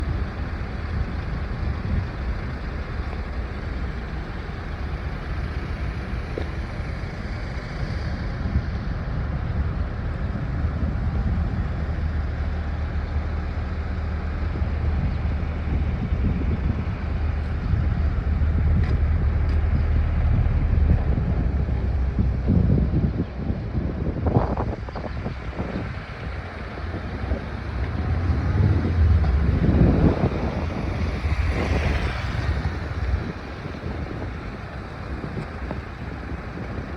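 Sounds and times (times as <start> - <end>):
pickup truck engine rumble: 0.0 - 36.9
road and wind noise: 0.0 - 36.9.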